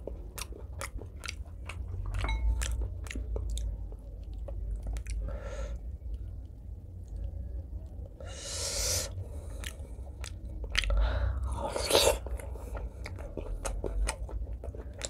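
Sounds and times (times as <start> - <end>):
wet chewing and lip smacks: 0.0 - 8.0, 9.2 - 15.0.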